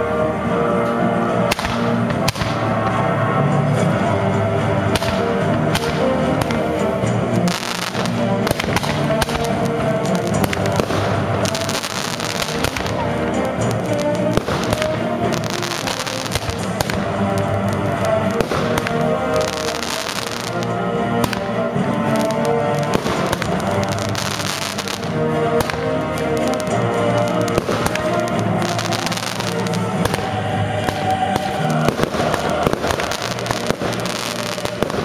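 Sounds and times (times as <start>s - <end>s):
fireworks bursting and crackling: 0.0s - 35.0s
music: 0.0s - 35.0s.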